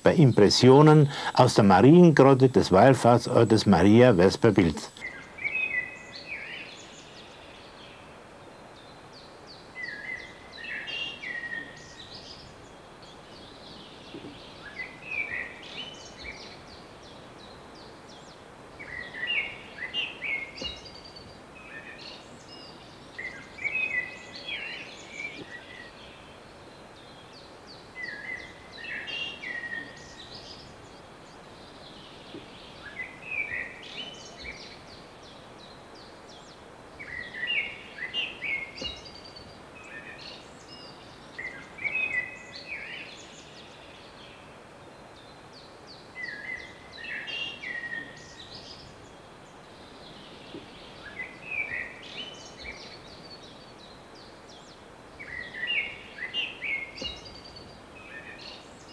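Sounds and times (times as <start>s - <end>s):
faint background hiss: 0.0s - 58.9s
songbird singing: 0.0s - 58.9s.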